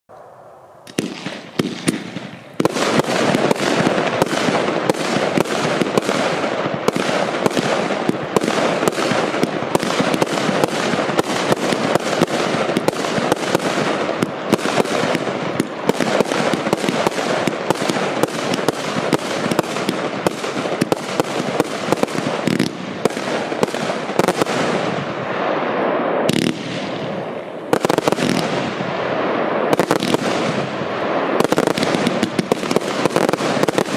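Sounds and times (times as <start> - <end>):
fireworks bangs and pops: 0.8 - 33.9.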